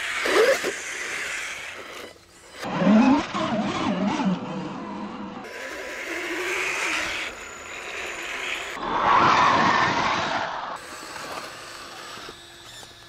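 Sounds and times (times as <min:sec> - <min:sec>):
electric motors and gears whining: 0:00.0 - 0:13.0.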